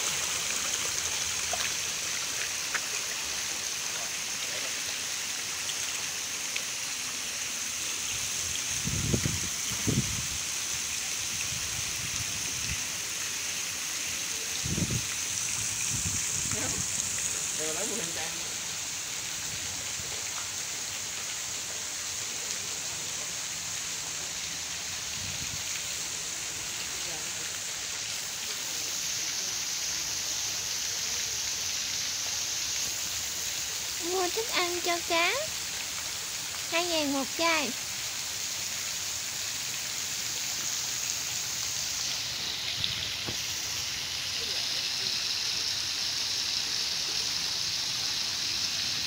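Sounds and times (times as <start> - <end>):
fountain splashing: 0.0 - 49.0.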